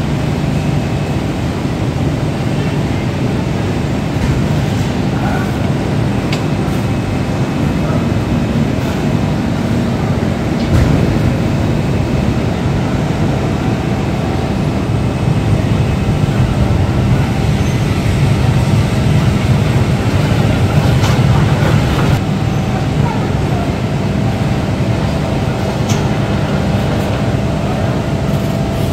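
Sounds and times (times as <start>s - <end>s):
fabric spreading machine rumbling: 0.0s - 28.9s
factory floor drone: 0.0s - 28.9s.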